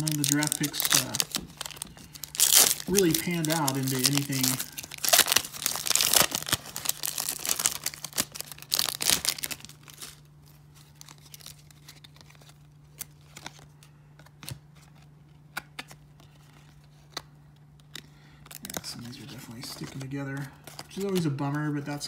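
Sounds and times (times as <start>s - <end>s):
wax-paper wrapper crinkling and tearing: 0.0s - 15.1s, 15.8s - 22.0s.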